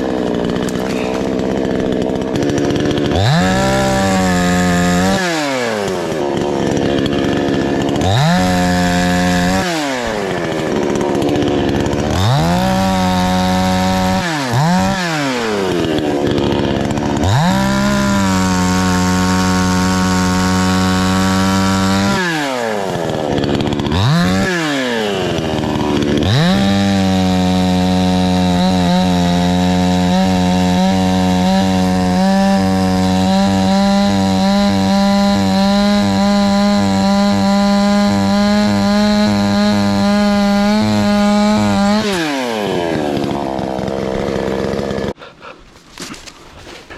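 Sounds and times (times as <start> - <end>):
chainsaw revving and idling: 0.0 - 46.9.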